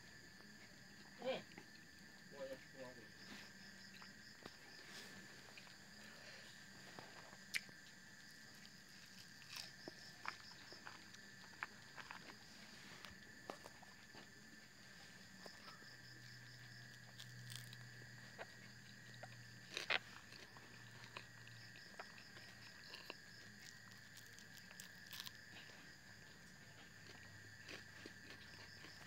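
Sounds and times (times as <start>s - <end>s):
chewing with soft crunches: 0.0s - 29.0s.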